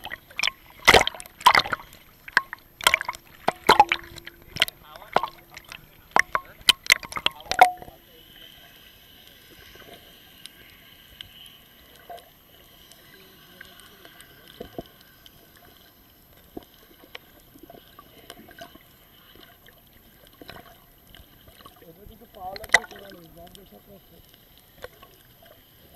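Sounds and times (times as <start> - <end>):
water sloshing around a boat: 0.0 - 25.9.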